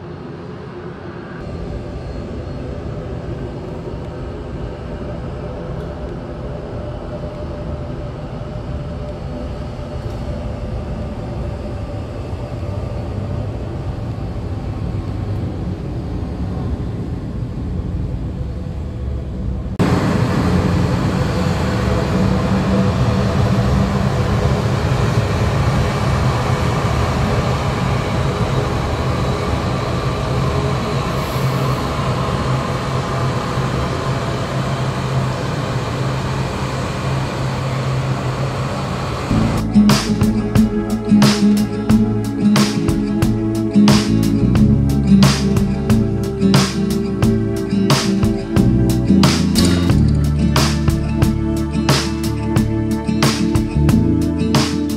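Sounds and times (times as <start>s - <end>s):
jet engines at takeoff: 0.0s - 54.9s.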